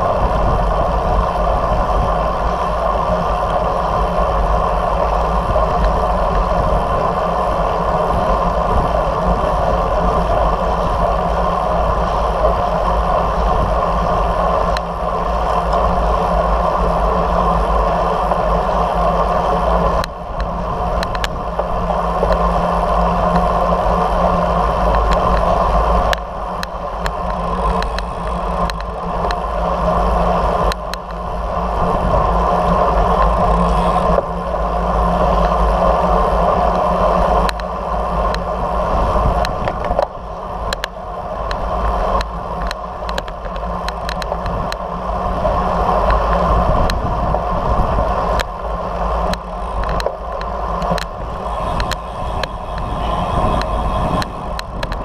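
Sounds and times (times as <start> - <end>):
tyres rolling on asphalt: 0.0 - 55.0
wind buffeting microphone: 0.0 - 55.0.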